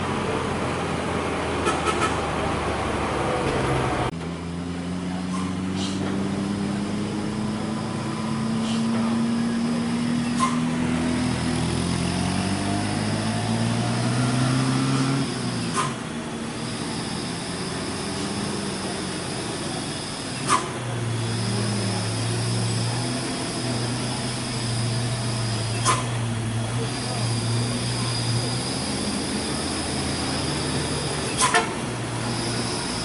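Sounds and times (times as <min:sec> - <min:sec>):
truck diesel engine labouring: 0:00.0 - 0:33.0.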